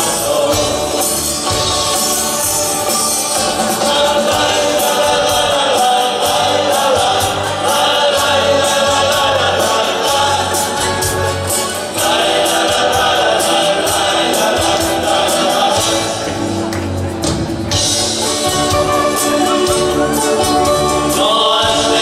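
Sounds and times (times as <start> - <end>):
male vocal group singing: 0.0 - 16.5, 18.9 - 22.0
plucked guitars: 0.0 - 22.0.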